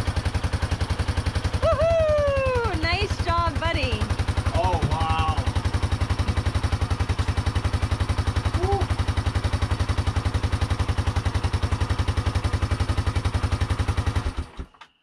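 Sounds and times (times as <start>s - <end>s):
engine running: 0.0s - 14.8s.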